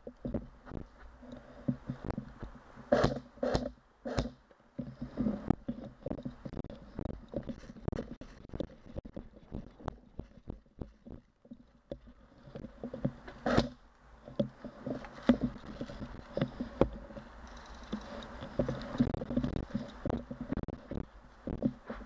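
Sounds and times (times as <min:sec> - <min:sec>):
gear knocking and rattling: 0:01.6 - 0:22.0.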